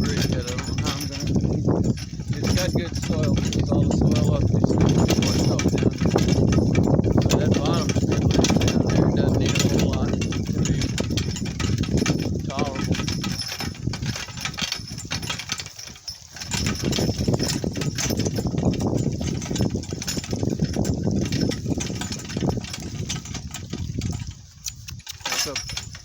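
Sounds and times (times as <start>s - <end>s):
cart rattling and knocking: 0.0s - 26.0s
cart rumbling over rough ground: 0.0s - 26.0s
donkey hoof steps: 0.0s - 26.0s.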